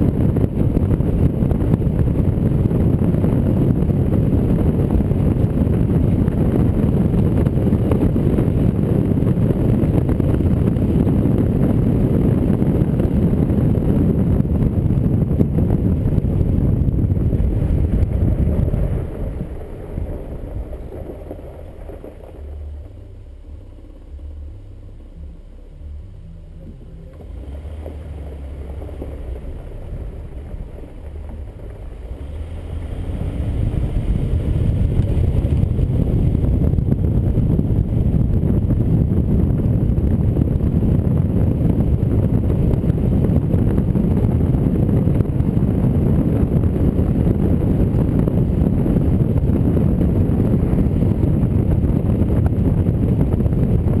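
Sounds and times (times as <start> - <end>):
tyres rumbling on gravel: 0.0 - 24.5, 26.9 - 54.0
wind on microphone: 0.0 - 54.0.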